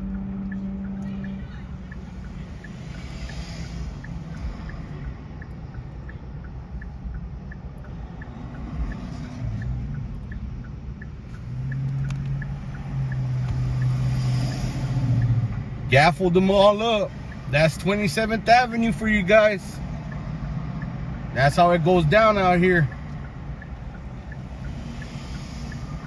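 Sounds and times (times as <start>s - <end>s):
faint regular ticking: 0.0s - 26.0s
street traffic: 0.0s - 26.0s
vehicle engine low hum: 0.0s - 26.0s.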